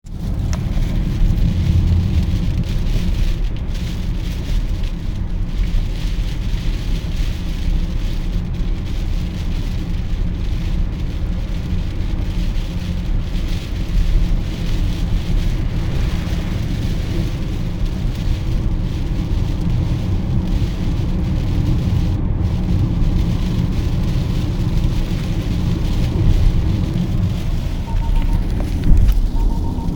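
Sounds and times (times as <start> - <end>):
heavy rain beating on a car: 0.0 - 29.9
tyre and road rumble: 0.0 - 29.9.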